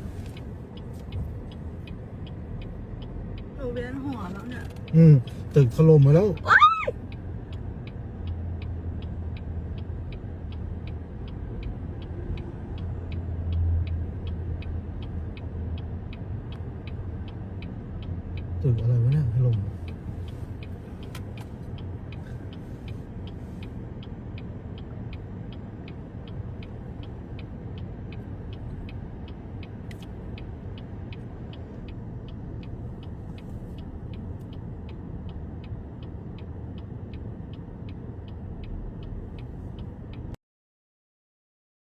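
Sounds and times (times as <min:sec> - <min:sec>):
low vehicle rumble: 0:00.0 - 0:40.4
even ticking: 0:00.3 - 0:40.4.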